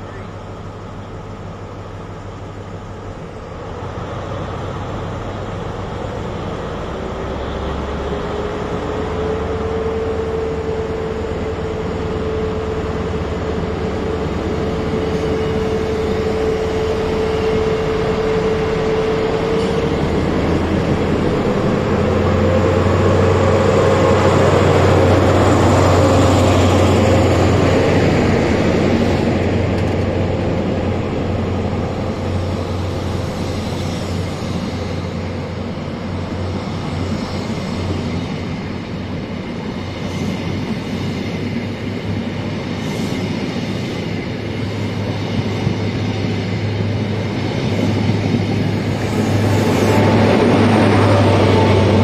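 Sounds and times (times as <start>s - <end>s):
diesel train passing: 0.0s - 52.0s
diesel train pulling away: 0.0s - 52.0s.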